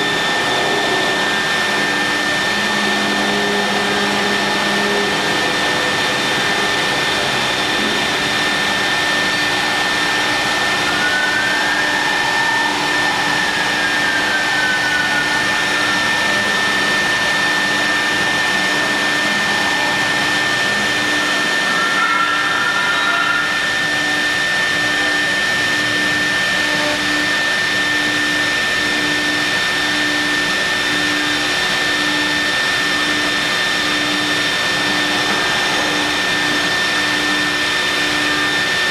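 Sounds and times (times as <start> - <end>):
high machine whine: 0.0 - 38.9
milling machine rushing noise: 0.0 - 38.9.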